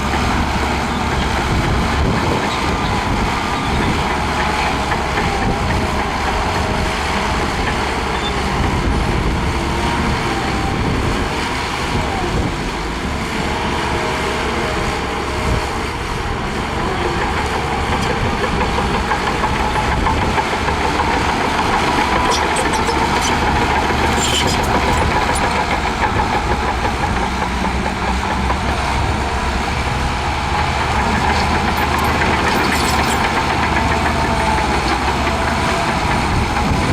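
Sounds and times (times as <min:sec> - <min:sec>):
bulldozer diesel engine under load: 0:00.0 - 0:36.9.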